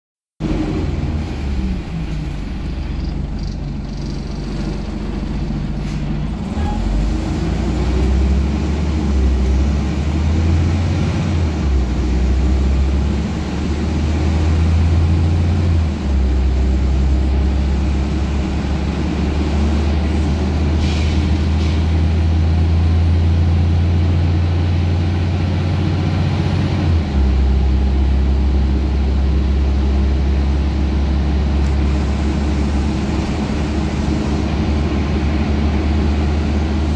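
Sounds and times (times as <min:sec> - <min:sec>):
bus diesel engine accelerating: 0:00.4 - 0:36.9.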